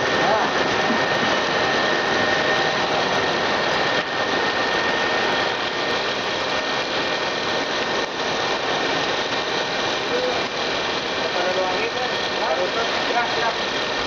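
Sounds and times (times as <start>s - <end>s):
machine running with high whine: 0.0s - 14.0s.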